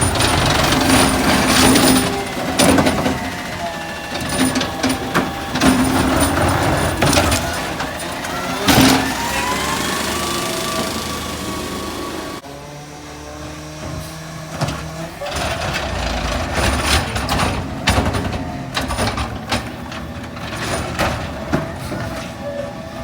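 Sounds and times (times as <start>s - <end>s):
metal clanks and bangs: 0.0s - 9.8s, 13.7s - 23.0s
garbage truck engine running: 0.0s - 23.0s.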